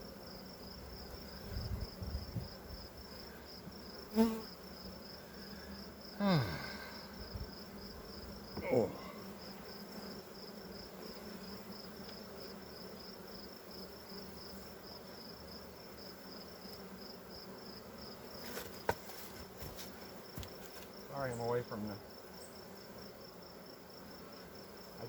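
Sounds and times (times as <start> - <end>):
honey bees buzzing: 0.0 - 25.0.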